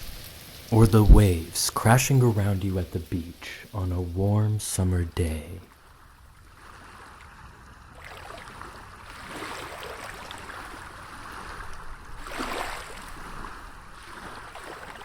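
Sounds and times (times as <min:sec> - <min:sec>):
ocean waves washing onto beach: 0:00.0 - 0:15.0.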